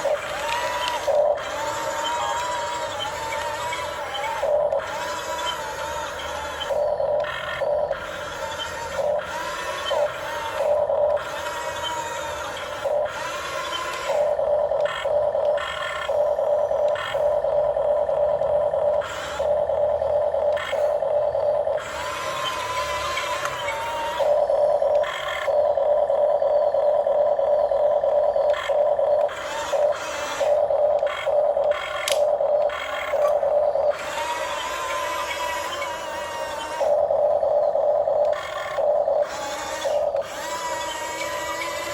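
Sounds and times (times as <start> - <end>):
electric motors whirring: 0.0 - 41.9.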